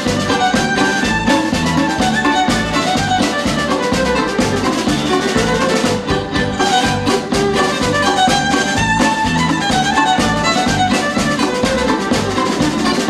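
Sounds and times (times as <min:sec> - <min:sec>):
fiddle melody: 0:00.0 - 0:13.0
live folk-rock band playing: 0:00.0 - 0:13.0.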